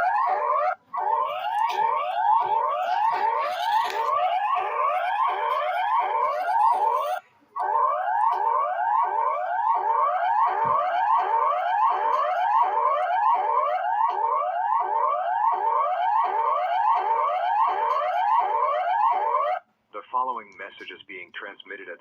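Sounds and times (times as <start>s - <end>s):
rising whooping alarm tone: 0.0s - 19.6s.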